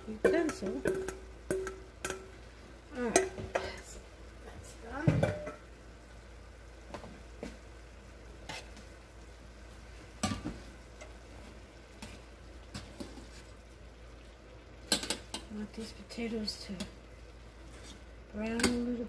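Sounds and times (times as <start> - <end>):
faint sizzle in frying pan: 0.0 - 19.0.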